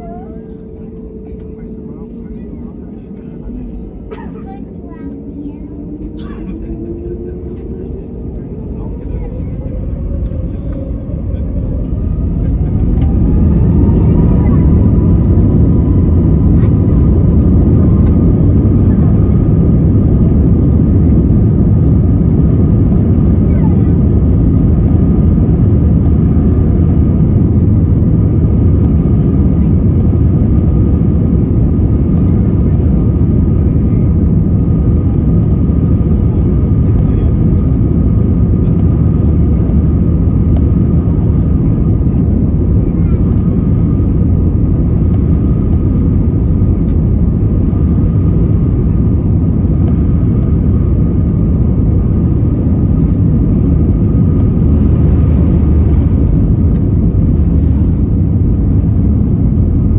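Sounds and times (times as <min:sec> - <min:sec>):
engine and wheel rumble in cabin: 0:00.0 - 0:59.9.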